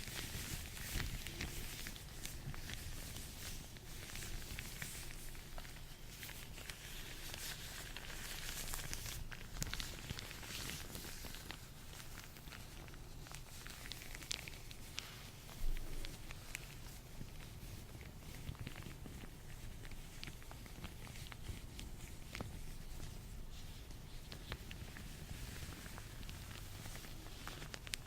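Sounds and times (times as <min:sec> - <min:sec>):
latex gloves rubbing and crackling: 0:00.0 - 0:28.0.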